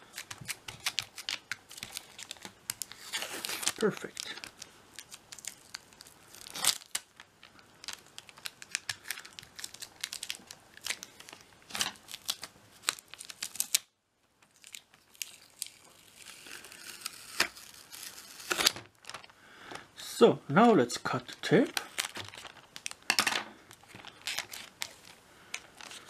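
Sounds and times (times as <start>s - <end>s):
adhesive tape crackling: 0.0s - 19.3s, 21.6s - 23.1s, 23.7s - 26.0s.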